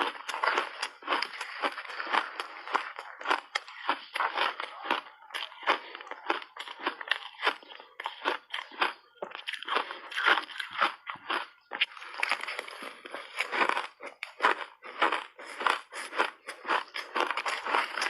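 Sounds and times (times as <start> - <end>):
ice being chewed: 0.0 - 18.0.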